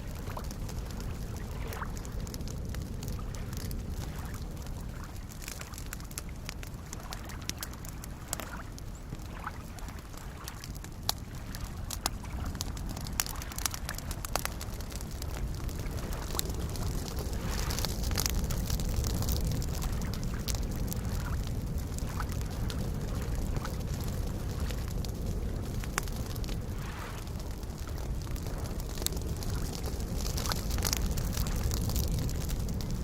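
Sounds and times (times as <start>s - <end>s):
campfire crackling and popping: 0.0s - 33.0s
soft lake waves: 0.0s - 33.0s.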